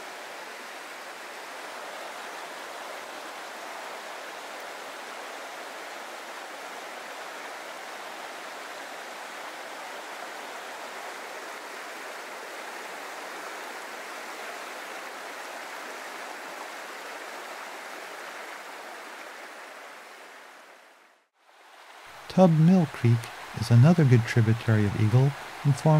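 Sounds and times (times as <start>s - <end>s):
stream rushing over stones: 0.0s - 20.8s, 21.5s - 25.9s.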